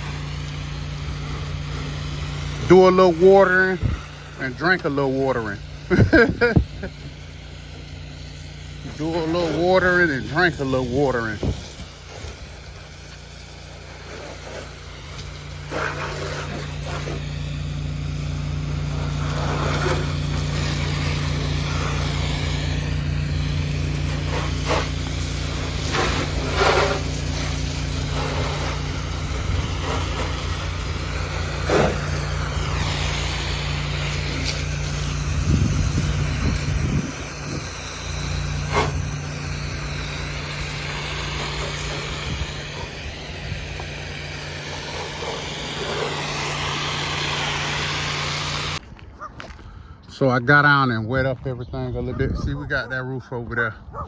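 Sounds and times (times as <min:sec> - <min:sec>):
water spray hissing: 0:00.0 - 0:48.8
pressure washer engine running: 0:00.0 - 0:48.9.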